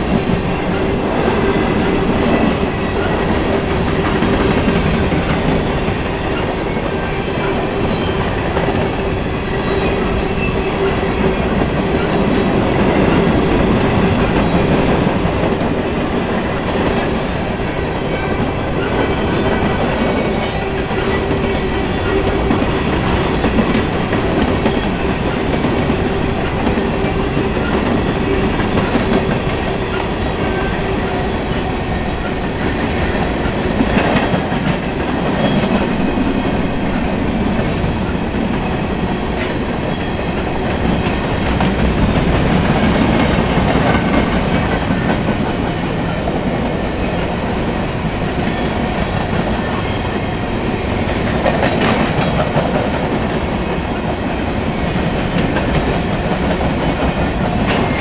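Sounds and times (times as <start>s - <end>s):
freight train rolling rumble: 0.0s - 58.0s.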